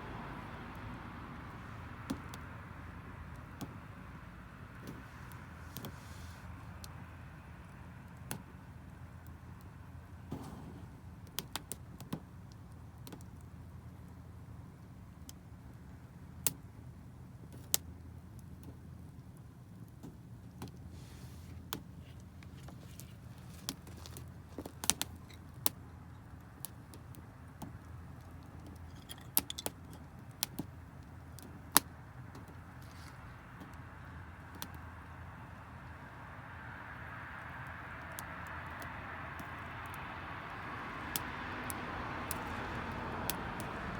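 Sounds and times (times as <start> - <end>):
low steady rumble: 0.0 - 43.9
campfire crackling and popping: 0.7 - 20.9, 21.5 - 36.2, 36.9 - 43.9.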